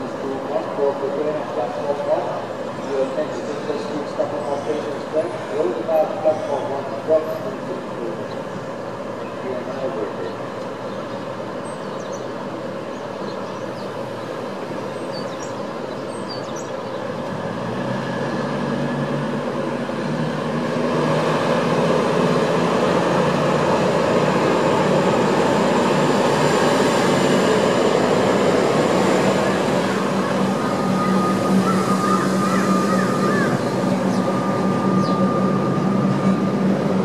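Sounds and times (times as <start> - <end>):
low engine drone: 0.0 - 37.0
train noise: 0.0 - 37.0.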